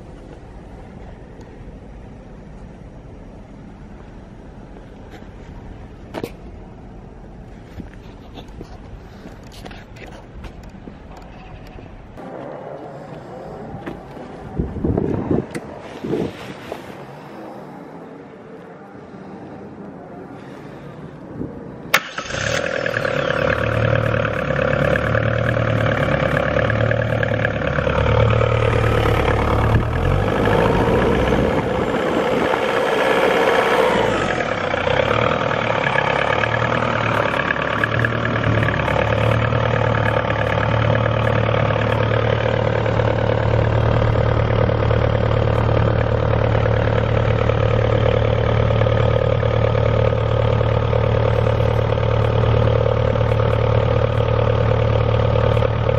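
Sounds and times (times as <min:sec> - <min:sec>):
diesel engine starting and running: 0:00.0 - 0:55.9.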